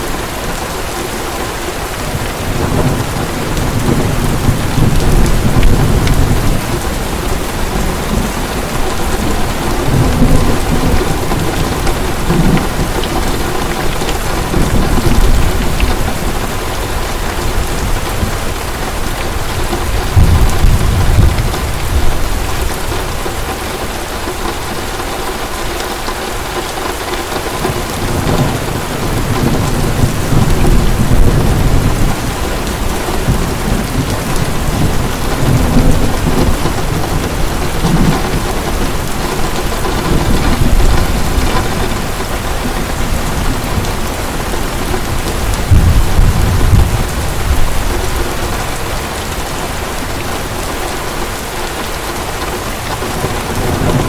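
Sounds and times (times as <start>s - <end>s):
heavy rain: 0.0s - 54.0s
rolling thunder: 2.0s - 23.5s, 27.5s - 49.8s.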